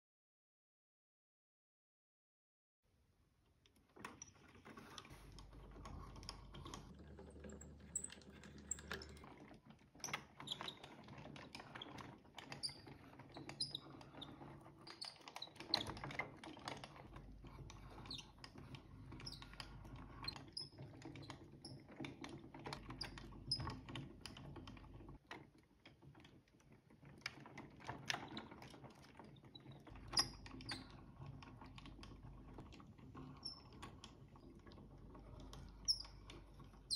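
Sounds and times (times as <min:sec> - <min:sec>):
wooden gears clicking and tapping: 0:03.7 - 0:36.9.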